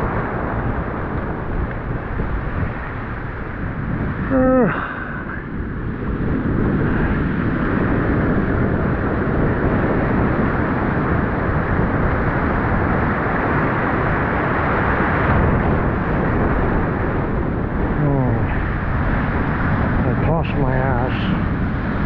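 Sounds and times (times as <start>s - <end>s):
surf and whitewater rushing: 0.0s - 22.0s.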